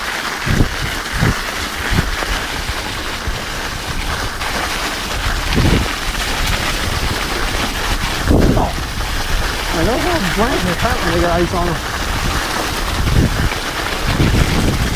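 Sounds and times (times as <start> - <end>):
tyre and wind noise: 0.0 - 14.9.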